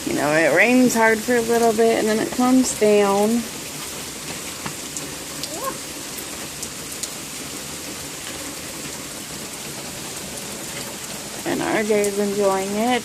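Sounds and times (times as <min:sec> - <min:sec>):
raindrops ticking on surfaces: 0:00.0 - 0:13.0
steady rain falling: 0:00.0 - 0:13.0.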